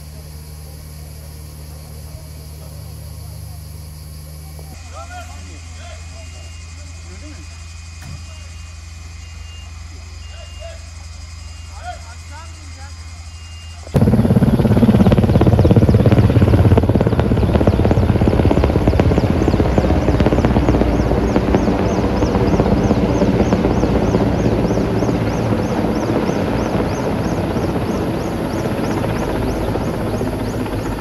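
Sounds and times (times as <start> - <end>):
helicopter rotor and engine: 0.0 - 31.0.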